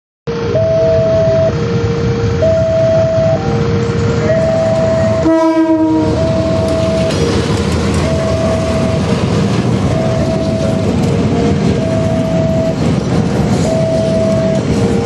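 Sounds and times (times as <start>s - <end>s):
train rumbling past: 0.3s - 15.0s
two-tone warning signal: 0.3s - 15.0s.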